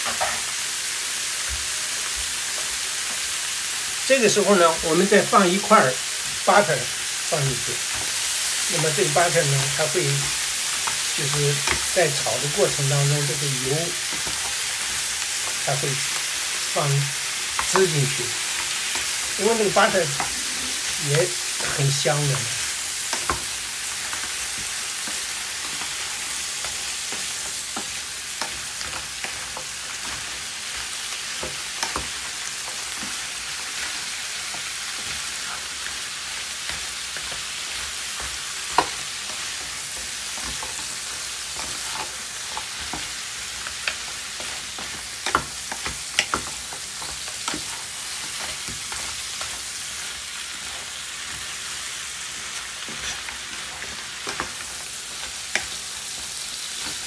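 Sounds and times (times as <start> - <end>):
crab sizzling in butter: 0.0 - 57.0.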